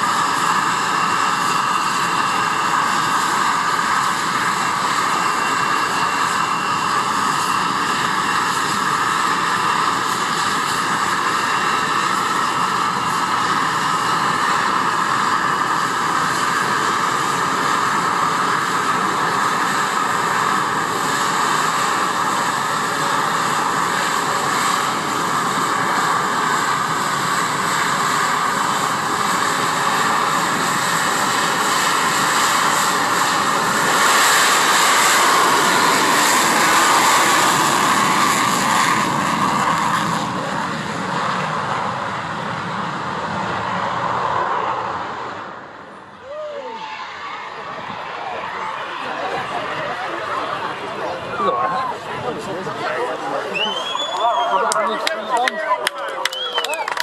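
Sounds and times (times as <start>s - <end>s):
jet engines roaring with high hiss: 0.0s - 57.0s.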